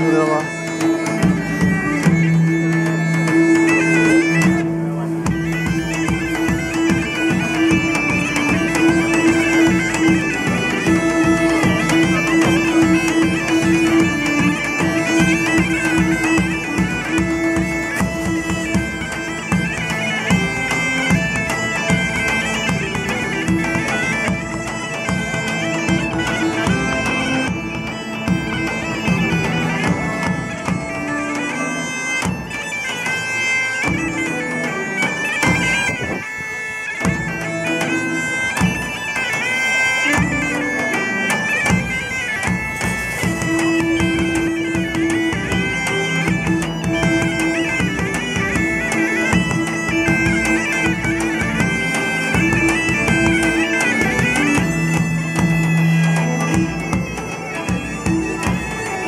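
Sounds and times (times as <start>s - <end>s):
bagpipes playing: 0.0s - 59.0s.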